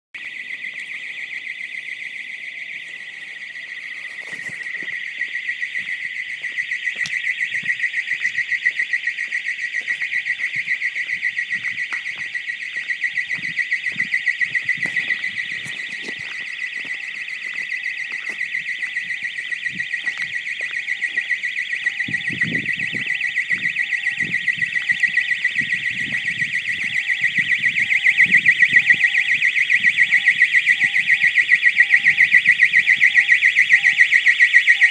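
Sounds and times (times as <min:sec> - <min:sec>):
faint low beep: 0:00.2 - 0:34.9
high-pitched pulsing alarm: 0:00.2 - 0:34.9.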